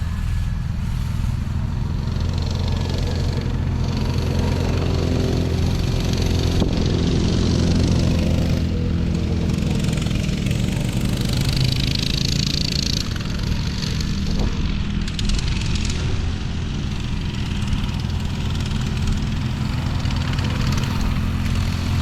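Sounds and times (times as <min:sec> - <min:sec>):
small vehicle engine droning: 0:00.0 - 0:22.0.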